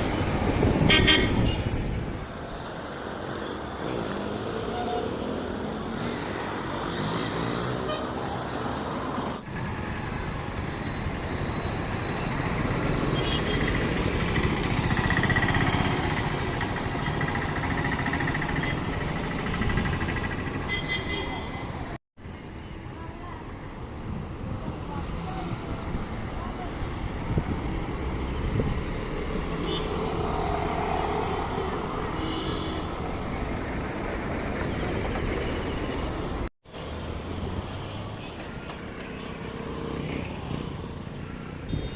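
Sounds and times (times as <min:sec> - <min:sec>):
traffic engines rumbling: 0:00.0 - 0:41.9.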